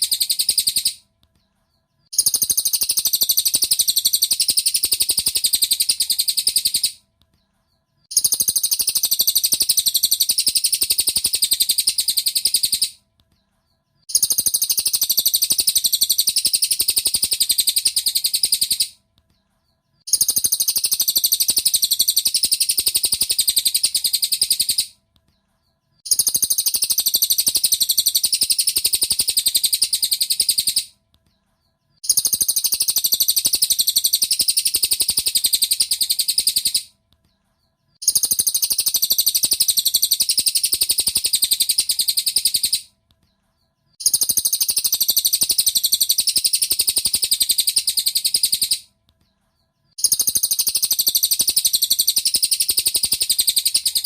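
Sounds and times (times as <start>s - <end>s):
bird chattering trill: 0.0s - 1.0s, 2.1s - 7.0s, 8.1s - 13.0s, 14.1s - 19.0s, 20.0s - 25.0s, 26.0s - 30.9s, 32.0s - 36.9s, 38.0s - 42.9s, 44.0s - 48.9s, 50.0s - 54.0s.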